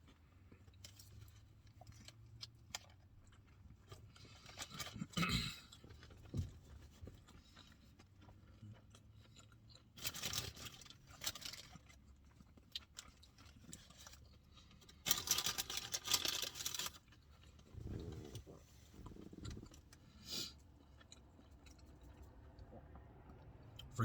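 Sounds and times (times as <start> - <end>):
person chewing: 0.0 - 23.9.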